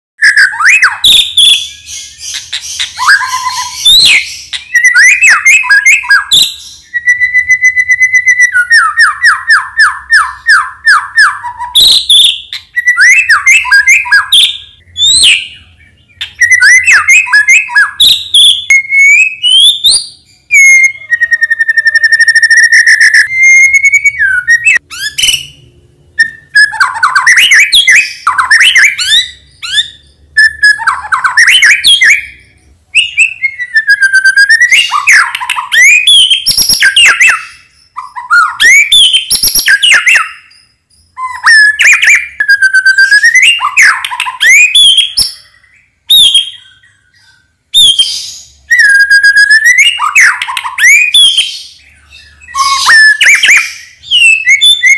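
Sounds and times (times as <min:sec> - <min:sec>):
bird singing whistles and trills: 0:00.2 - 0:54.9.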